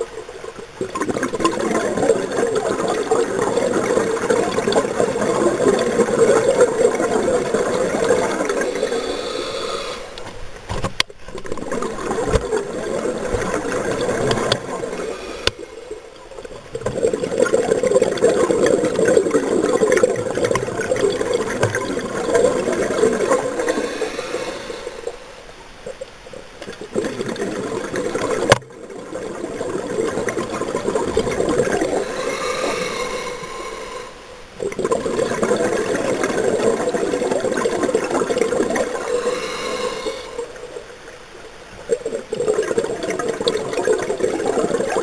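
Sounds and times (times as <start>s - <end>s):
scuba regulator bubbling: 0.0s - 45.0s.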